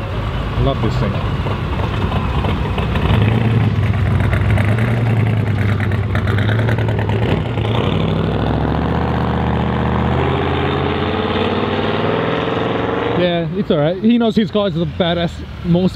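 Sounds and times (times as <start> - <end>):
pickup truck engine driving past: 0.0 - 13.5.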